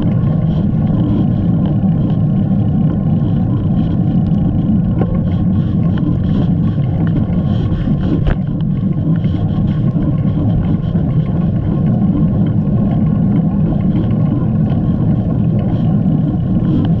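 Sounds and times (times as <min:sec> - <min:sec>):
bicycle tyre noise: 0:00.0 - 0:17.0
wind rumble: 0:00.0 - 0:17.0.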